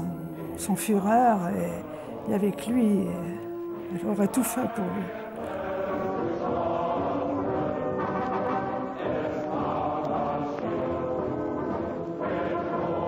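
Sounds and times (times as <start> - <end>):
choir singing slow held chords: 0.0 - 13.0.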